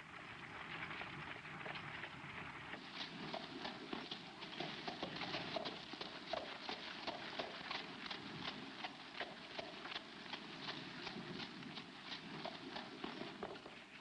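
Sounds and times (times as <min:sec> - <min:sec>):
horse hoofbeats: 0:00.3 - 0:14.0.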